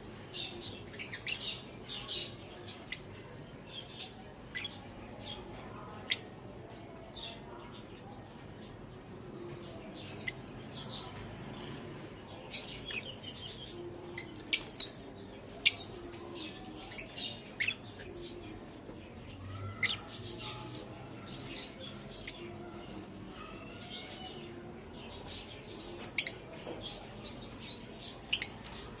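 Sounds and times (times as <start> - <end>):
lovebirds chirping and squawking: 0.1 - 29.0.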